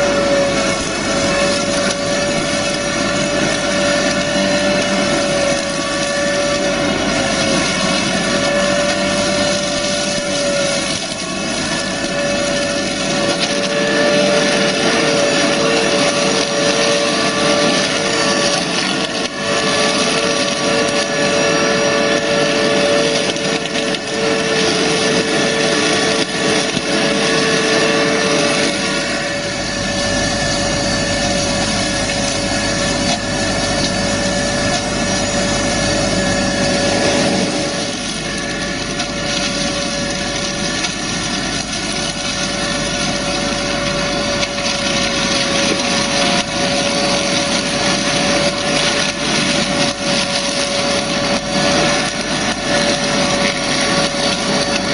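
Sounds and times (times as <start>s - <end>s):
shrub trimmer whining: 0.0s - 54.9s
tractor engine running: 0.0s - 54.9s.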